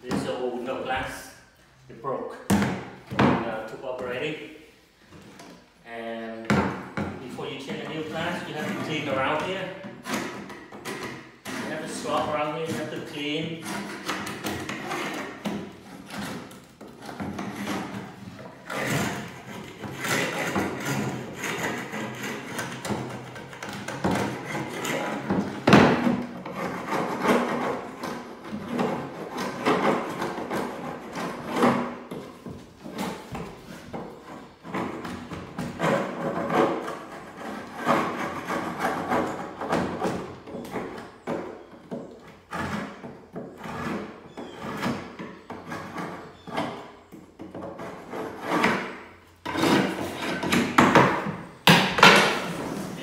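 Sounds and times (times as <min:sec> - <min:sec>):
hand scraper scraping wood: 0:06.3 - 0:53.0.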